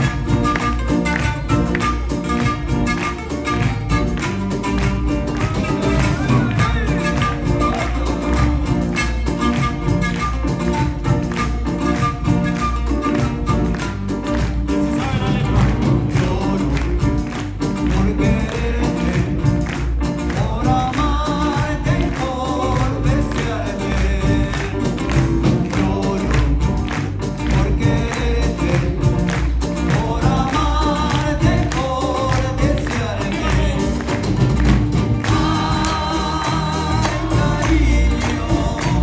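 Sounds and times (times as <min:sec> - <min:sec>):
voices singing: 0:00.0 - 0:13.8, 0:14.4 - 0:39.0
percussion beat: 0:00.0 - 0:39.0.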